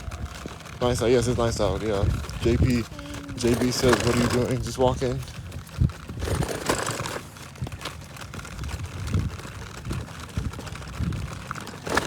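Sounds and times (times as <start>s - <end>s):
steady rustling: 0.0s - 12.0s.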